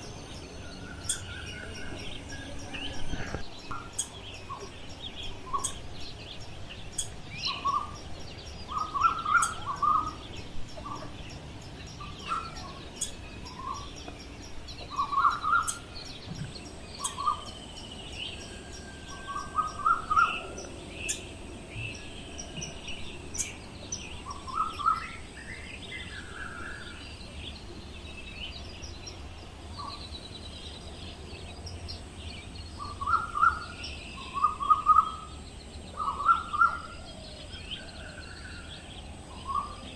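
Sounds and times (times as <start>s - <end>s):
birds calling: 0.0s - 39.9s
faint high chirping: 0.0s - 39.9s.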